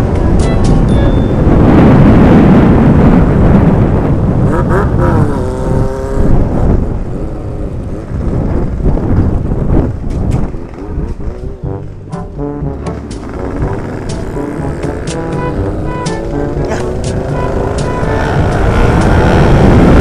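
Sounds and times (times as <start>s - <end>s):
wind and road noise: 0.0s - 20.0s
motorcycle engine revving: 1.4s - 20.0s.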